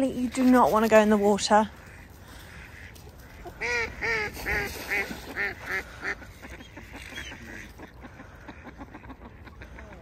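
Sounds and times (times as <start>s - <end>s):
waterfowl calling: 0.1s - 10.0s.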